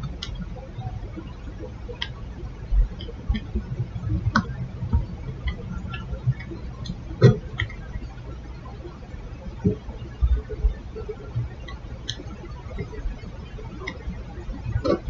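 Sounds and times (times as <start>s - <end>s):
small clicks and light taps: 0.0s - 8.8s, 9.5s - 15.0s.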